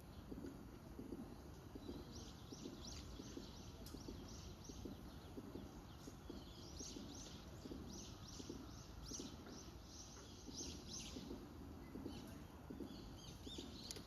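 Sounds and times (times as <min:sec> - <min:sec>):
faint low irregular patter: 0:00.0 - 0:14.0.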